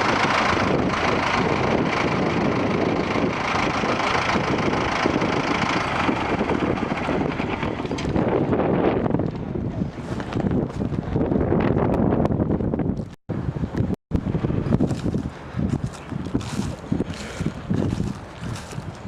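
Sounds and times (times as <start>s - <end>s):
tractor diesel engines running: 0.0s - 19.0s
wind buffeting microphone: 0.0s - 19.0s.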